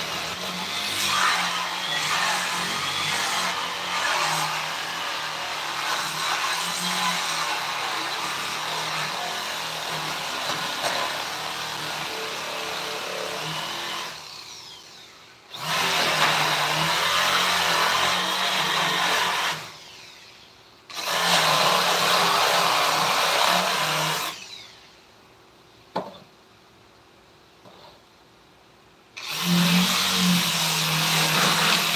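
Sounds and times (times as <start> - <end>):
electric power tool cutting wood: 0.0 - 25.0, 29.2 - 31.9.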